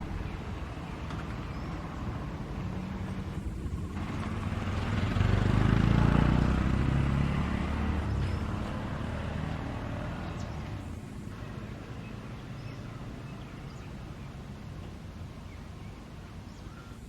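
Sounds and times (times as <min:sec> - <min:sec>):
vehicle engine passing by: 0:00.0 - 0:14.2.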